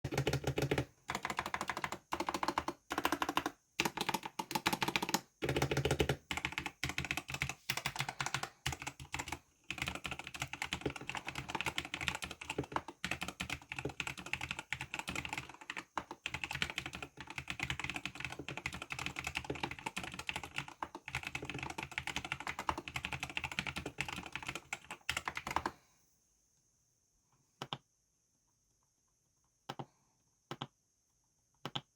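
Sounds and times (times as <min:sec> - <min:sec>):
mechanical keyboard typing: 0:00.0 - 0:25.7.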